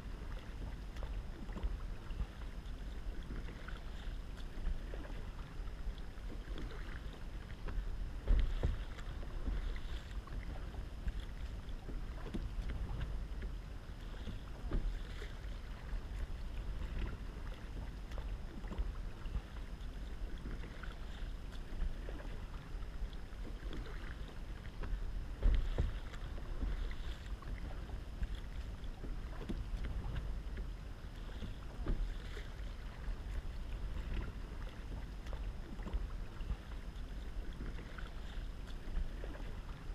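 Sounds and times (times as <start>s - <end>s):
paddle strokes through water: 0.0s - 39.9s
wind rumbling on microphone: 0.0s - 39.9s.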